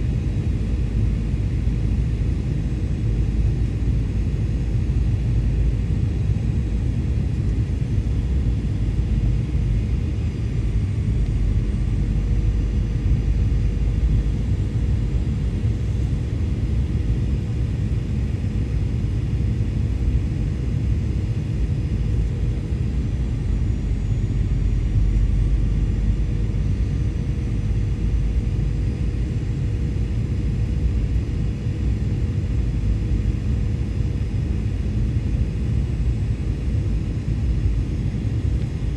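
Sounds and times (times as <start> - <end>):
airliner cabin rumble: 0.0 - 38.9
constant hum: 0.0 - 38.9.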